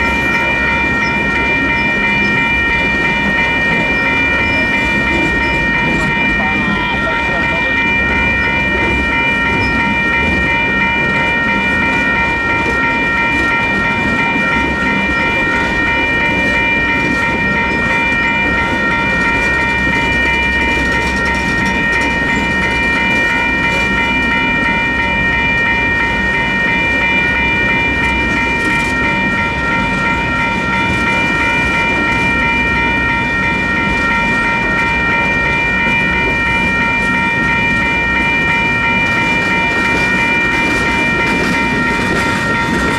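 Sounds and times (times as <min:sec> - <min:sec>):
crossing bells ringing: 0:00.0 - 0:42.9
freight train rumble and wheel clatter: 0:00.0 - 0:42.9.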